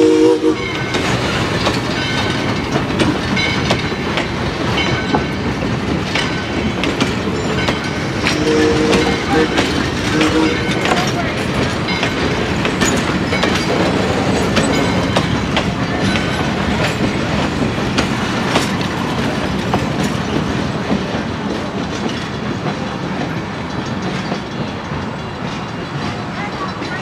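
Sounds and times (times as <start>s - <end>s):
train rolling rumble: 0.0s - 27.0s
train wheels clicking over rail joints: 0.0s - 27.0s.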